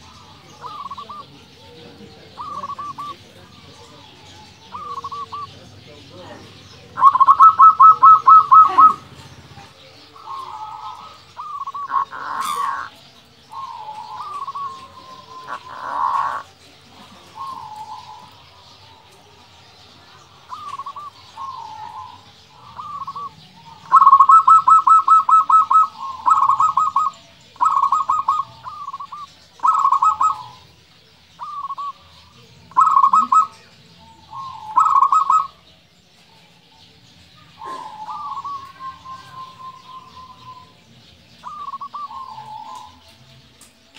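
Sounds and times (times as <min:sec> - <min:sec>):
dove cooing: 0:00.0 - 0:30.8, 0:31.4 - 0:43.2.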